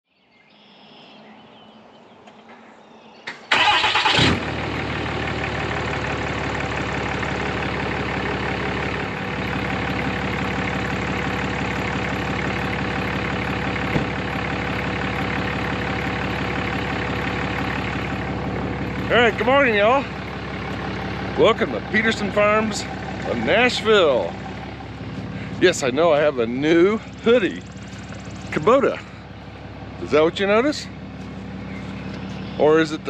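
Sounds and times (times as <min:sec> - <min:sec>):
engine cranking and idling: 0:03.3 - 0:33.0.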